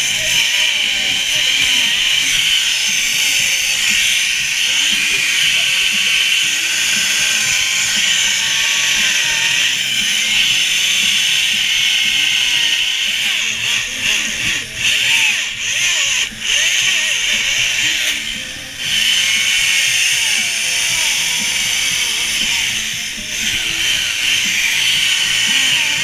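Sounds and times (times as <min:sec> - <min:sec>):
chainsaws cutting ice: 0:00.0 - 0:26.0.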